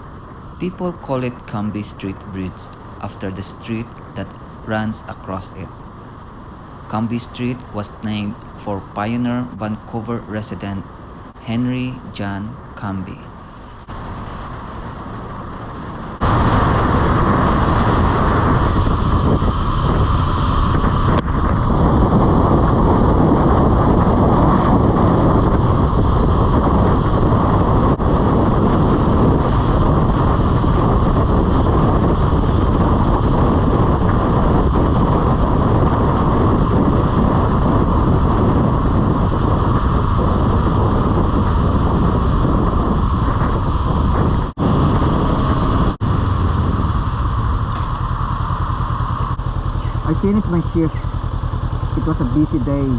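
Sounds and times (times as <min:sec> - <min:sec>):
motorcycle road and engine noise: 0:00.0 - 0:52.9
wind rushing over microphone: 0:00.0 - 0:52.9.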